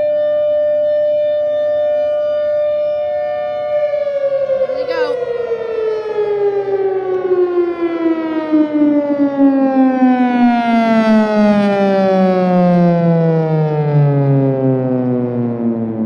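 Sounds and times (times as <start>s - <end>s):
warning siren winding down: 0.5s - 16.0s.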